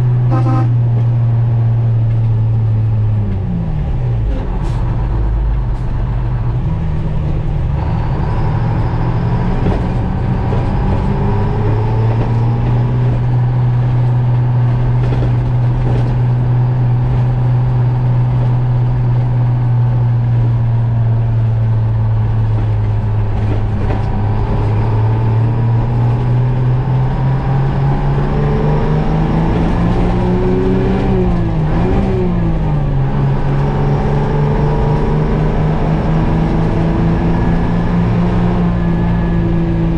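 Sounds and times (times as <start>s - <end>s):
truck engine under load: 0.0s - 39.9s.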